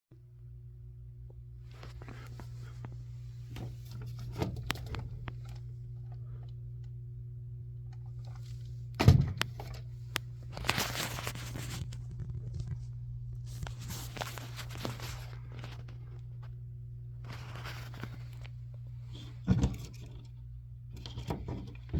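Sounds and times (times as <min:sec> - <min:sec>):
low electrical hum: 0:00.1 - 0:21.9.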